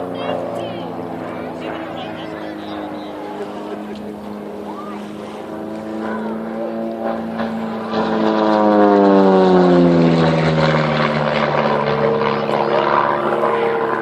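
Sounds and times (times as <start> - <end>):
propeller aircraft flying past: 0.0 - 14.0.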